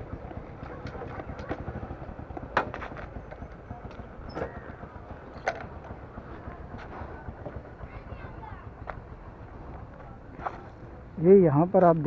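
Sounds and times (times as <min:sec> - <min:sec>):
steady low rumble: 0:00.0 - 0:12.0
footsteps on dirt path: 0:00.1 - 0:11.0.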